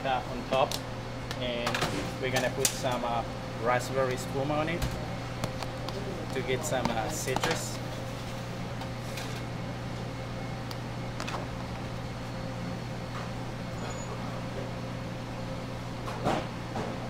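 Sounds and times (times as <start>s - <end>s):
kitchen equipment hum: 0.0s - 17.0s.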